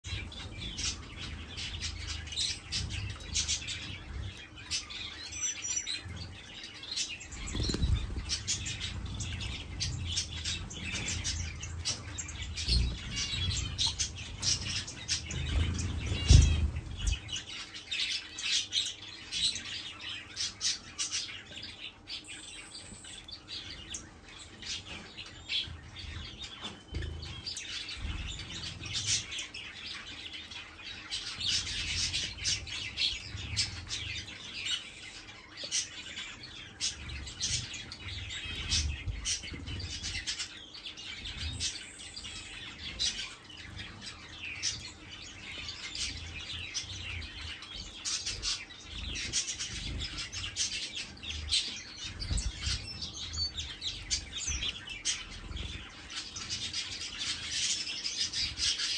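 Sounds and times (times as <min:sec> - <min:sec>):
finches chirping and twittering: 0:00.0 - 0:58.9.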